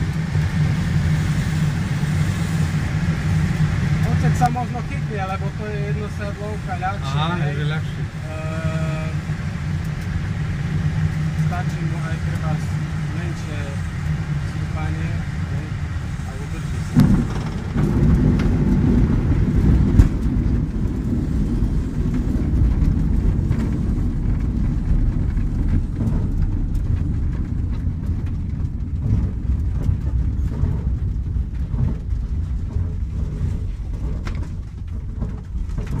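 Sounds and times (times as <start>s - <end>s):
glider wheel rumbling on grass: 0.0s - 36.0s
rushing air: 0.0s - 36.0s.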